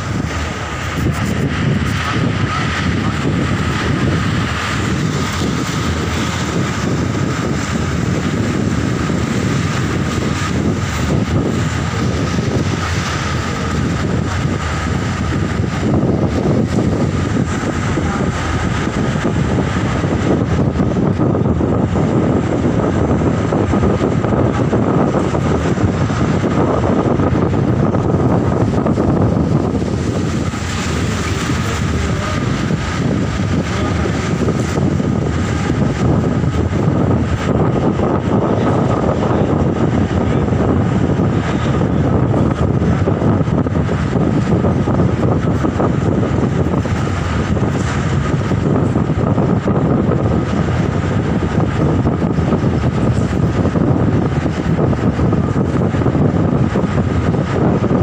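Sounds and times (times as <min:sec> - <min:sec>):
vehicle interior rumble: 0:00.0 - 0:58.0.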